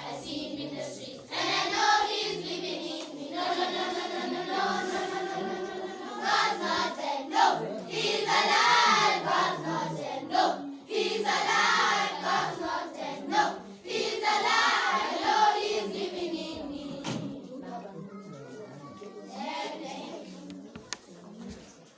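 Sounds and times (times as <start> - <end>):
children singing in chorus: 0.0 - 17.6, 19.3 - 20.4.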